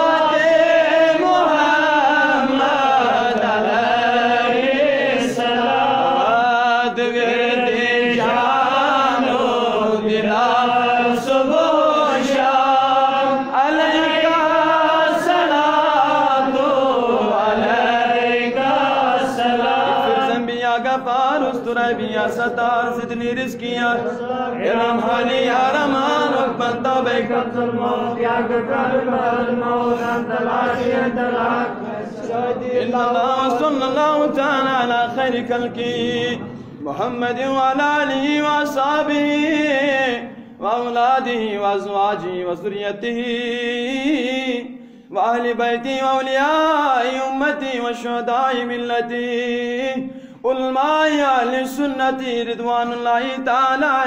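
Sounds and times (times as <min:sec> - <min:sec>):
man chanting a devotional song: 0:00.0 - 0:54.0.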